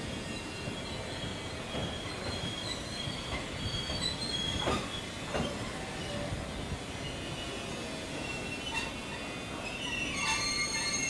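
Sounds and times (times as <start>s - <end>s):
low train rumble: 0.0s - 11.0s
train wheels squealing: 0.0s - 11.0s.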